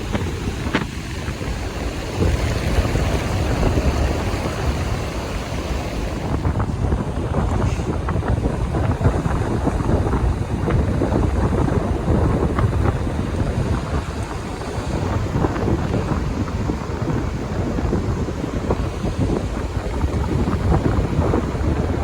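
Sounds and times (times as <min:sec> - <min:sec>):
wind blowing across microphone: 0:00.0 - 0:22.0.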